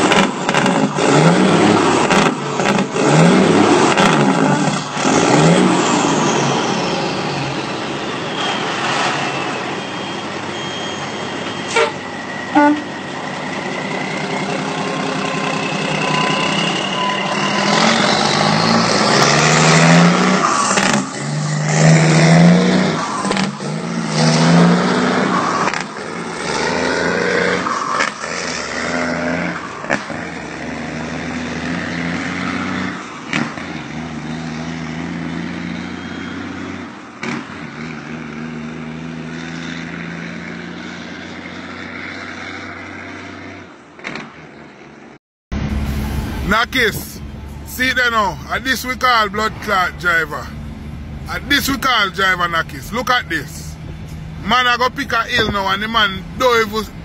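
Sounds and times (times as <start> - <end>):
diesel truck engine revving: 0.0 - 10.5, 11.1 - 43.6, 45.5 - 57.0.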